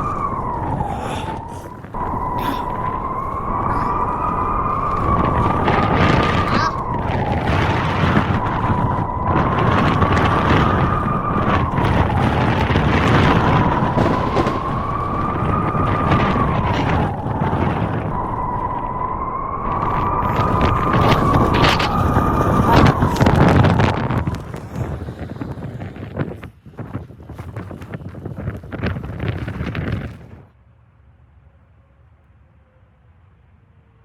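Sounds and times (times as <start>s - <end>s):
blizzard wind howling: 0.0s - 34.0s.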